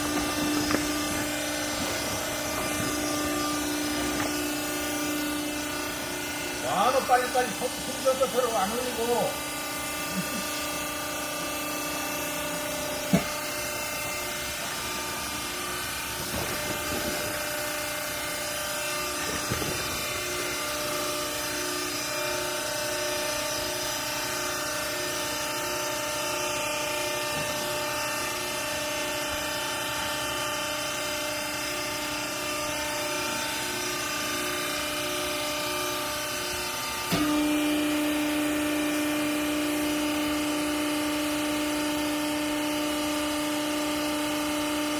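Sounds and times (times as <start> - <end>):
motor and pump whining: 0.0 - 44.9.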